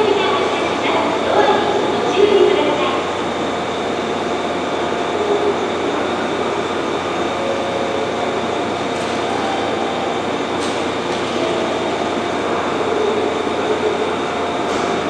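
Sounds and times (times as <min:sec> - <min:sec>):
electric train hum and hiss: 0:00.0 - 0:15.0.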